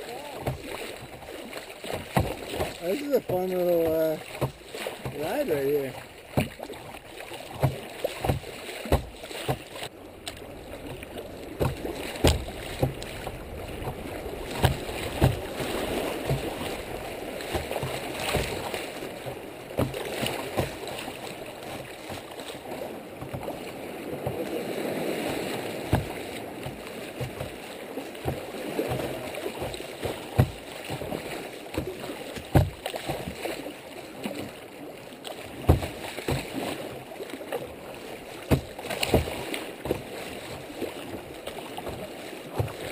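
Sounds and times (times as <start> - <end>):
creek water rushing and splashing: 0.0 - 42.9
water slapping against hull: 0.0 - 42.9.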